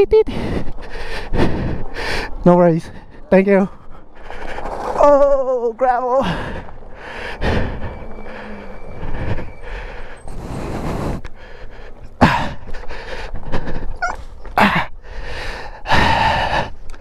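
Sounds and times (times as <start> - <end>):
heavy breathing: 0.3 - 5.0, 6.2 - 17.0
tyres rolling over gravel: 0.7 - 14.6.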